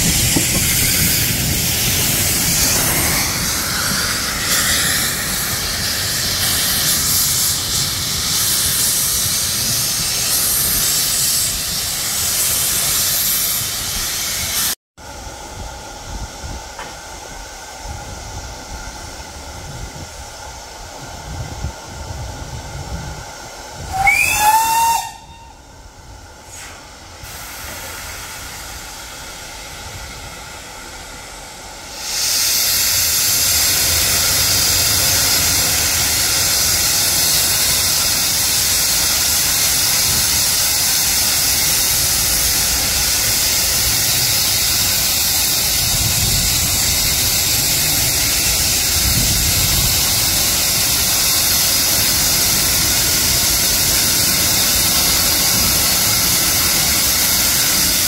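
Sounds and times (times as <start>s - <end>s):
steam hissing: 0.0s - 58.0s.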